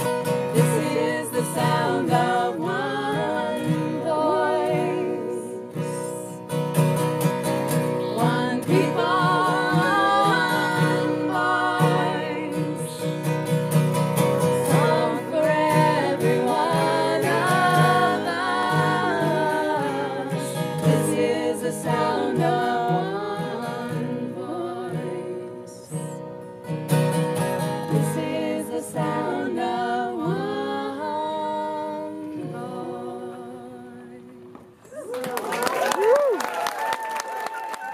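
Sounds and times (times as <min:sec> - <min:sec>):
women singing in harmony: 0:00.0 - 0:06.5, 0:07.8 - 0:26.2, 0:27.7 - 0:34.7
acoustic guitar strumming: 0:00.0 - 0:33.3.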